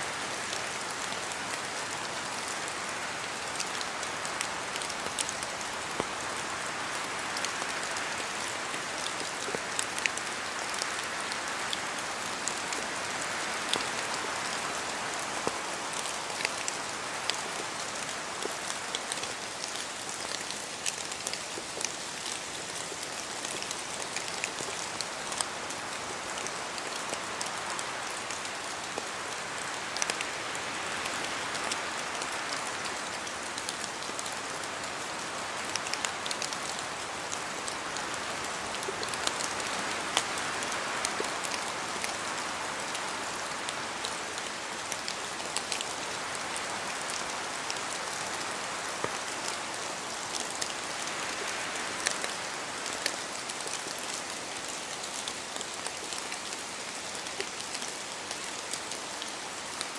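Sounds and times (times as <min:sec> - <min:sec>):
rain hissing through trees: 0:00.0 - 0:59.9.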